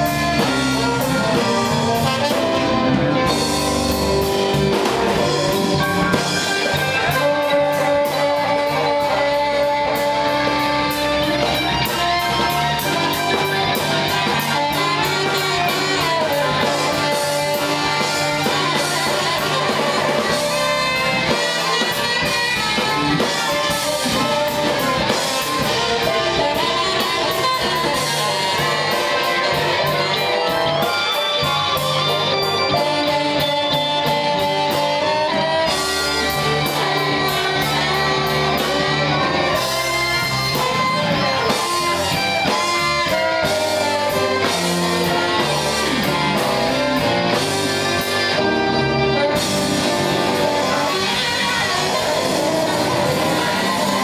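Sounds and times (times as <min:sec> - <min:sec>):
blues band playing: 0:00.0 - 0:54.0
electric guitar lead: 0:00.0 - 0:54.0.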